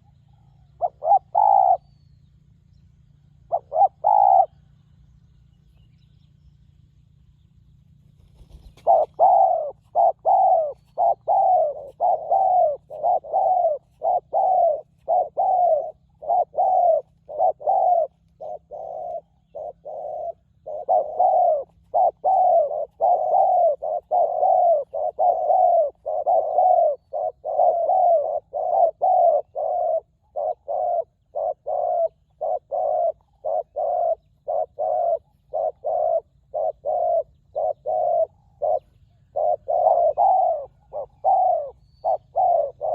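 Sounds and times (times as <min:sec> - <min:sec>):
dove cooing: 0:00.0 - 0:04.9, 0:08.0 - 0:42.9.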